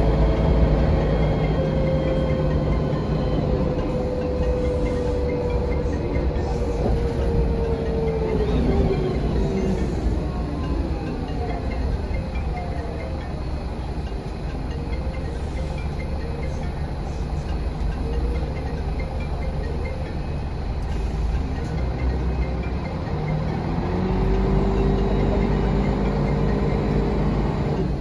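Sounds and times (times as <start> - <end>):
bus diesel engine: 0.0 - 28.0
road rumble: 0.0 - 28.0.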